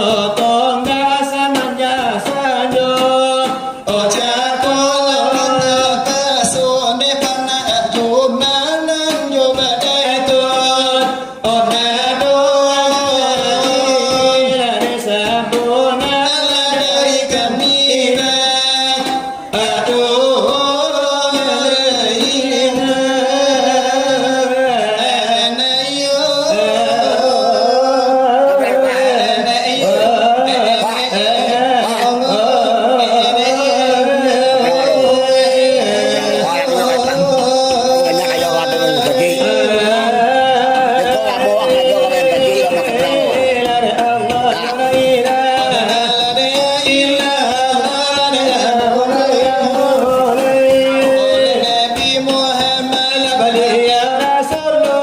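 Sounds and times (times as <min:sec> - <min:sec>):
voices chanting devotional song: 0:00.0 - 0:55.0.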